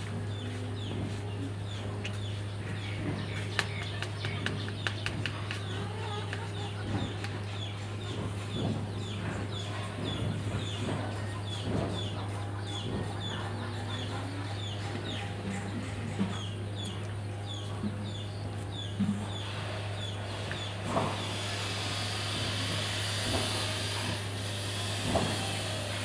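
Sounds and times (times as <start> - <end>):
clucking birds: 0.0 - 24.2.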